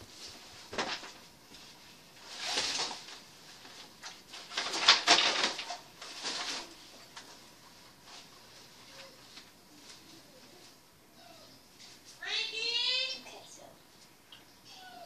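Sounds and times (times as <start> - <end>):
rustling and movement: 0.0 - 12.6.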